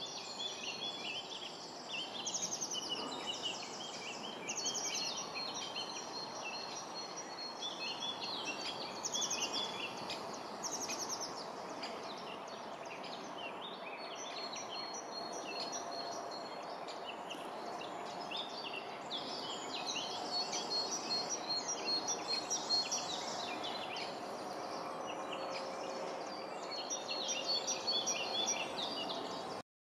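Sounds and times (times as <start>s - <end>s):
small birds chirping: 0.0s - 29.6s.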